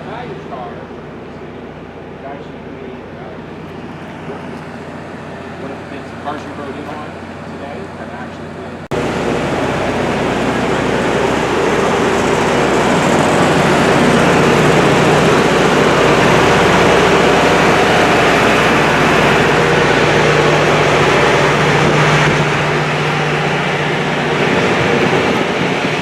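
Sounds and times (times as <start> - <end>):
locomotive engine humming: 0.0 - 26.0.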